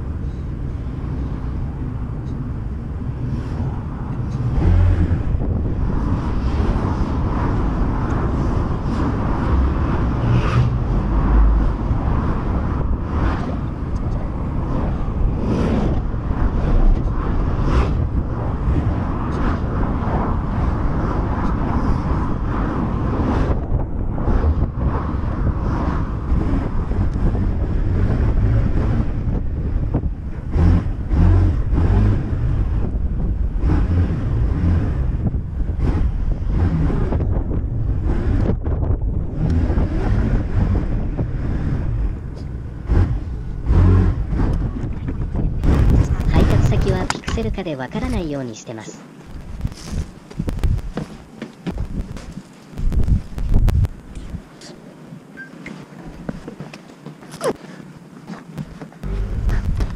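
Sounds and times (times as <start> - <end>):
wind buffeting microphone: 0.0 - 54.7, 56.0 - 59.9
road noise: 0.0 - 59.9.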